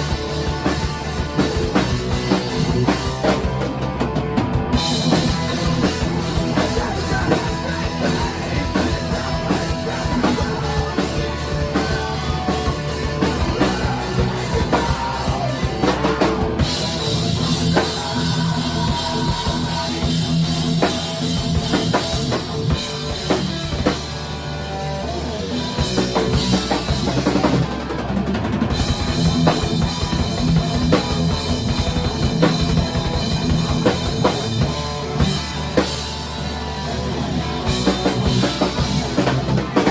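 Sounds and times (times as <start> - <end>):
rock music with drums: 0.0 - 39.9.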